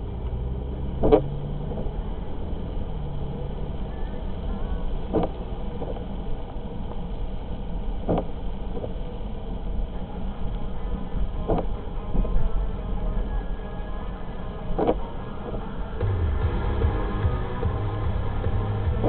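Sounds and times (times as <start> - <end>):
car road and engine noise: 0.0 - 19.0
windshield wipers swishing: 0.0 - 19.0.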